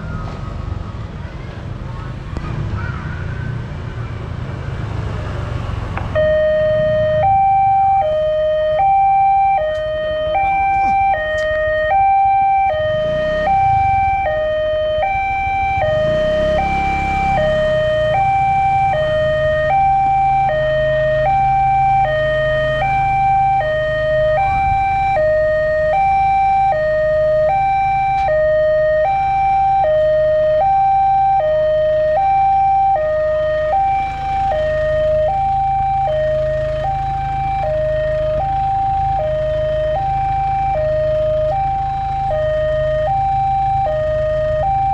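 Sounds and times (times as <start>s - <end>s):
level crossing two-tone alarm: 6.2s - 44.9s.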